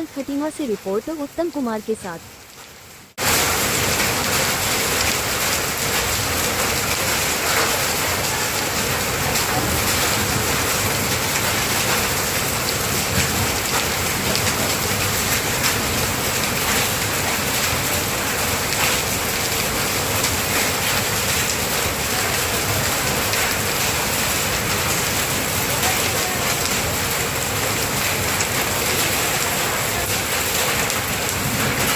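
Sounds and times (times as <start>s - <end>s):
hail and rain hitting surfaces: 3.2s - 31.9s.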